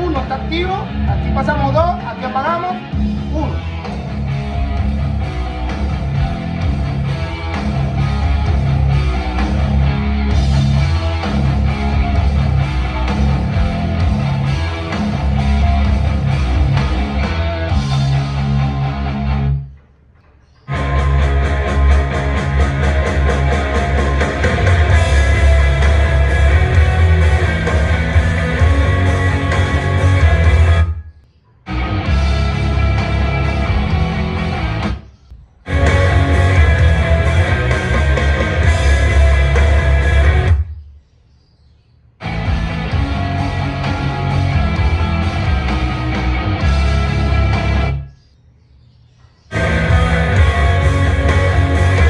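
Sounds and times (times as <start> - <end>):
rock song over loudspeaker: 0.0 - 19.6, 20.7 - 31.0, 31.7 - 40.7, 42.2 - 48.1, 49.5 - 52.0.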